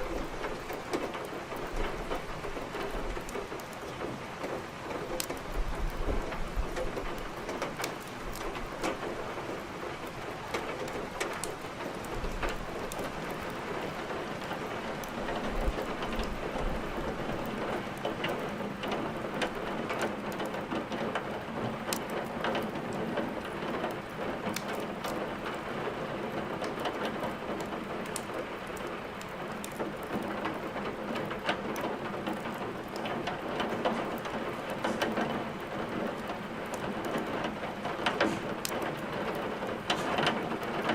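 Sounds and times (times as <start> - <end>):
logs crackling in a fireplace: 0.0 - 40.9
rain falling: 0.0 - 40.9.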